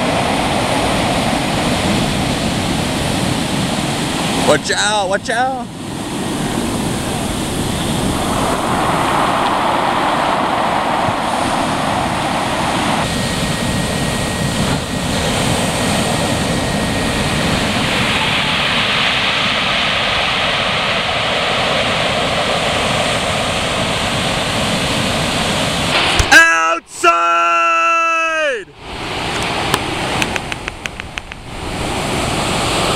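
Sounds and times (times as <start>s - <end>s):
wind on microphone: 0.0s - 4.5s, 5.7s - 26.0s, 28.8s - 32.9s
ocean surf breaking: 0.0s - 13.2s, 14.5s - 32.9s.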